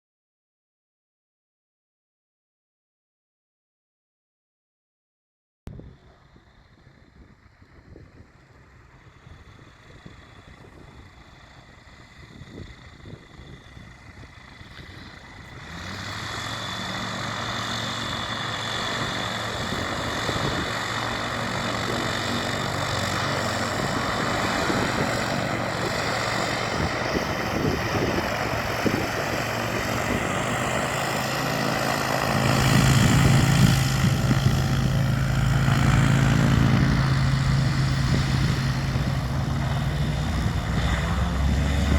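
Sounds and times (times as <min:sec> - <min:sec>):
propeller aircraft engine running: 0:05.7 - 0:41.9.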